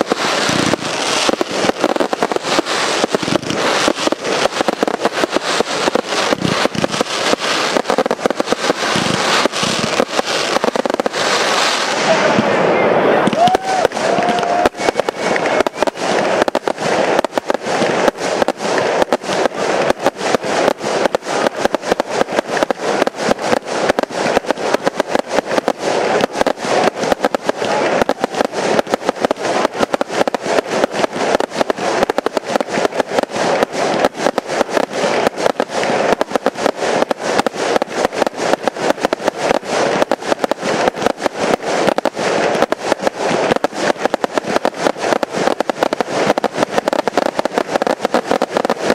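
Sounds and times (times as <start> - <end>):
fireworks launching and bursting: 0.0 - 48.9.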